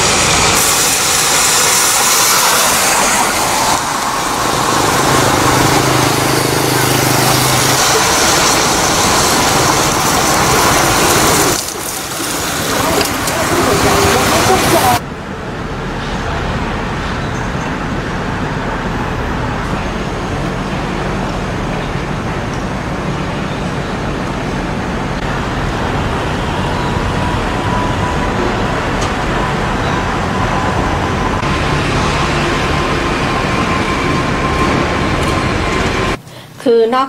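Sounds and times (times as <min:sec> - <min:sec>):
road traffic hiss: 0:00.0 - 0:37.0.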